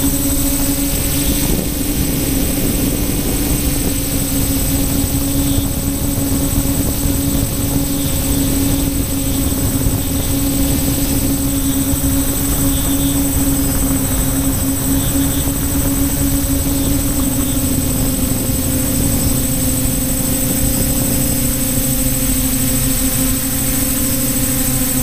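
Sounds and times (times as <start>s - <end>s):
drone propellers buzzing: 0.0s - 25.0s
low wind rumble: 0.0s - 25.0s.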